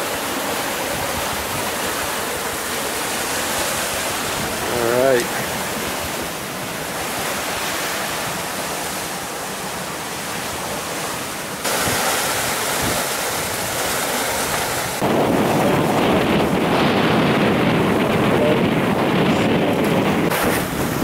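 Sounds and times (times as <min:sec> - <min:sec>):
water rushing past hull: 0:00.0 - 0:21.0
wind buffeting microphone: 0:00.0 - 0:21.0.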